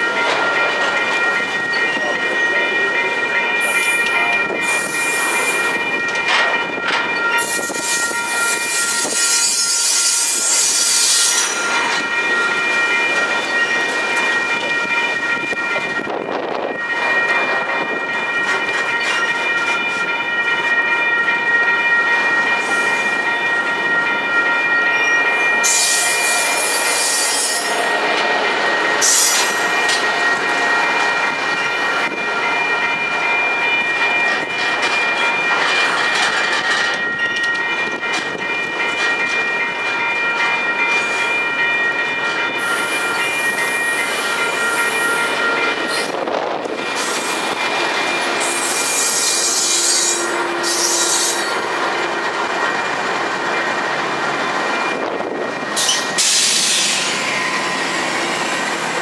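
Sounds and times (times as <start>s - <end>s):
train cars rumbling and clattering: 0.0s - 59.0s.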